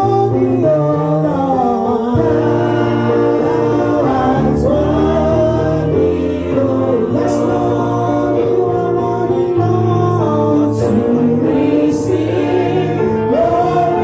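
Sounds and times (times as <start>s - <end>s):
congregation singing a gospel song: 0.0s - 14.0s.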